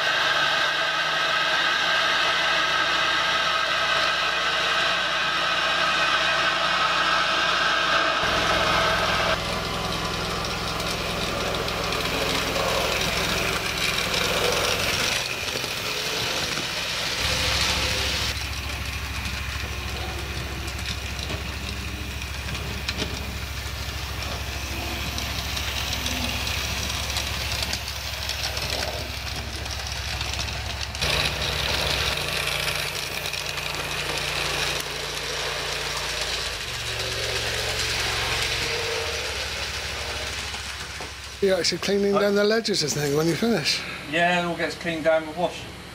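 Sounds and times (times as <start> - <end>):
model train mechanical hum: 0.0 - 45.9.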